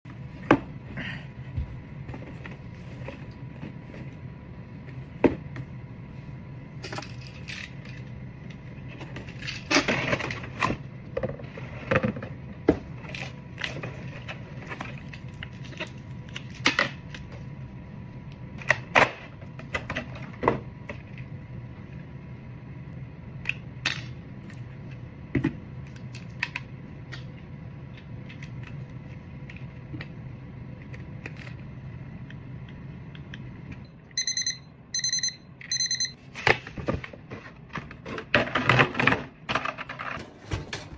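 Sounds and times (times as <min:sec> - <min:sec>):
low steady hum: 0:00.1 - 0:40.9.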